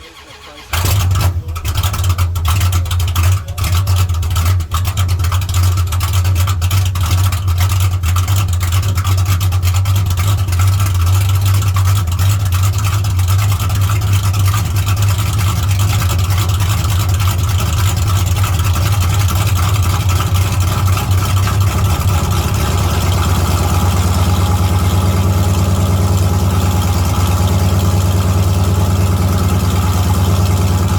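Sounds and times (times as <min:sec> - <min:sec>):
car engine cold start and idle: 0:00.0 - 0:30.9.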